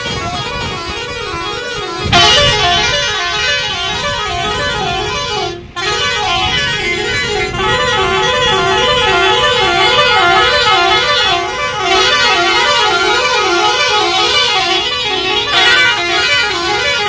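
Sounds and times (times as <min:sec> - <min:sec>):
lorry traffic rumble: 0:00.0 - 0:17.0
warbling musical vehicle horn: 0:00.0 - 0:17.0.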